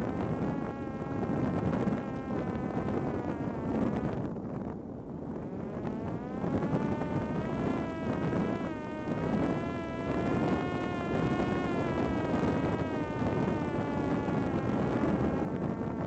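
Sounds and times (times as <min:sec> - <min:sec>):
drone propeller whining: 0:00.0 - 0:16.0
steady rushing noise: 0:00.0 - 0:16.0.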